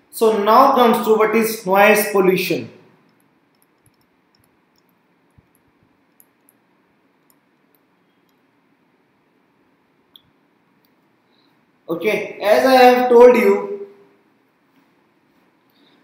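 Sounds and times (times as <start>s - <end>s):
faint room hiss: 0.0s - 16.0s.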